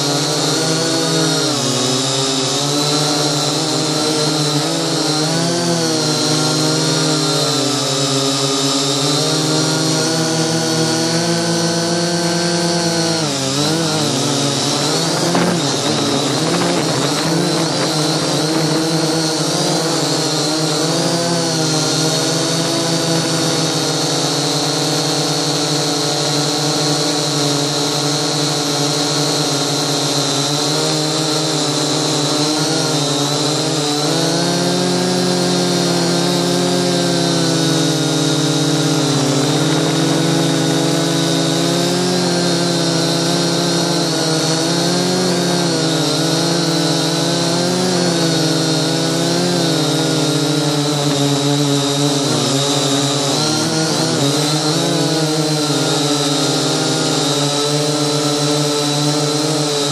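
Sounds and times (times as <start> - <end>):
toy drone propellers buzzing: 0.0 - 59.9.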